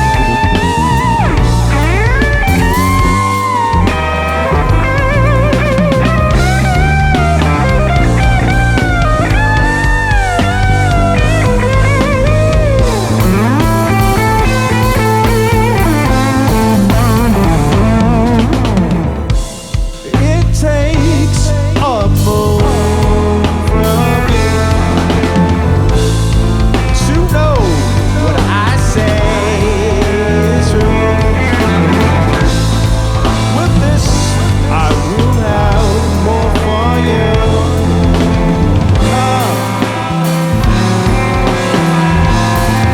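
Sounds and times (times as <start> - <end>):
electric guitar solo: 0.0 - 20.2, 22.5 - 42.9
drums: 0.0 - 42.9
keyboards: 0.0 - 42.9
live band playing: 0.0 - 42.9.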